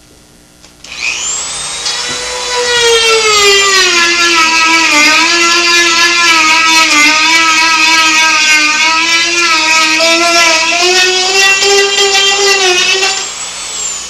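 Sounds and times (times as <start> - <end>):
rotary tool whining: 0.8 - 14.0.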